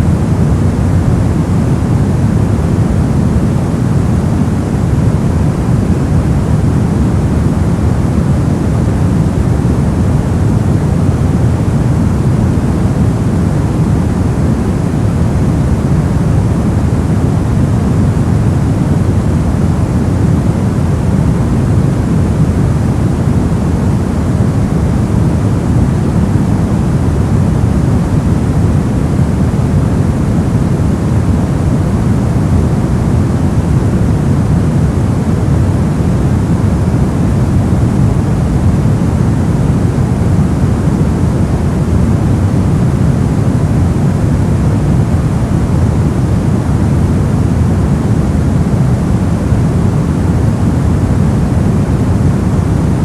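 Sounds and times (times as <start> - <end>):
white noise rumbling hiss: 0.0 - 53.0.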